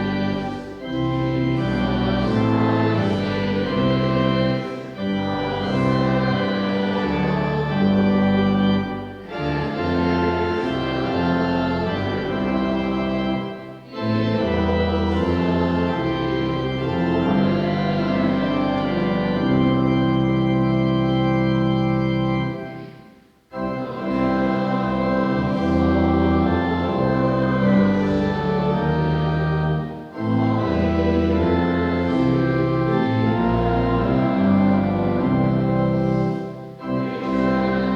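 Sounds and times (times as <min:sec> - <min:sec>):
church organ playing chords: 0:00.0 - 0:37.9.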